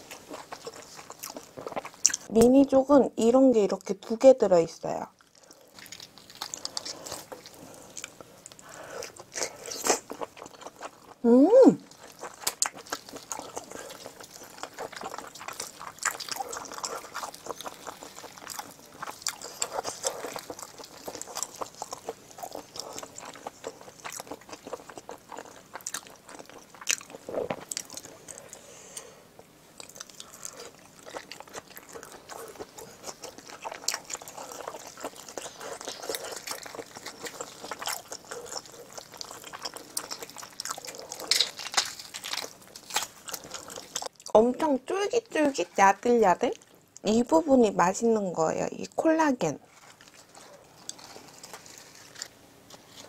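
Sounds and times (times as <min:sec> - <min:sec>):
chewing and mouth smacking: 0:00.0 - 0:02.4, 0:05.2 - 0:11.2, 0:11.8 - 0:28.6, 0:29.4 - 0:44.4, 0:49.7 - 0:53.0.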